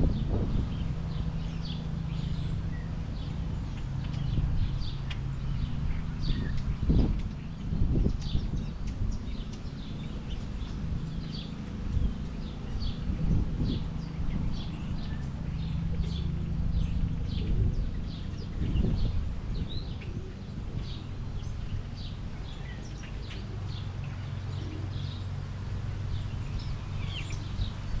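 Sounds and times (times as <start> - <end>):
songbirds chirping: 0.0 - 28.0
steady low rumble: 0.0 - 28.0.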